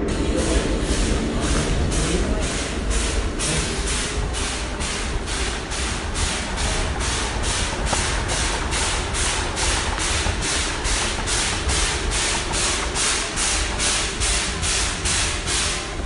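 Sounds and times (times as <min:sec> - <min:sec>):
model train rumbling on track: 0:00.0 - 0:16.0
rhythmic hissing beat: 0:00.0 - 0:16.0.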